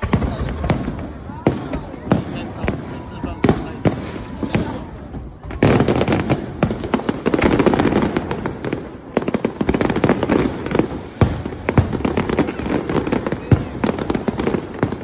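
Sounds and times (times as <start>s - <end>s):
fireworks bangs and crackles: 0.0s - 15.0s
heavy firework reports: 0.0s - 15.0s.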